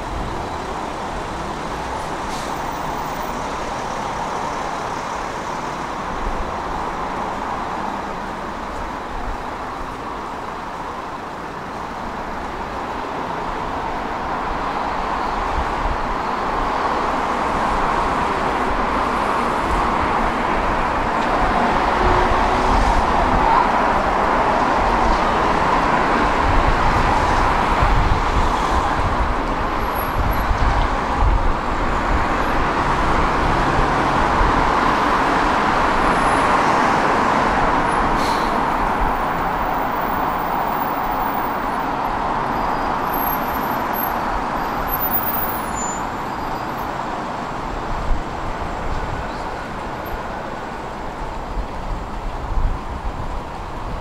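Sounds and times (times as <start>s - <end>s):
tram rumbling on tracks: 0.0s - 54.0s.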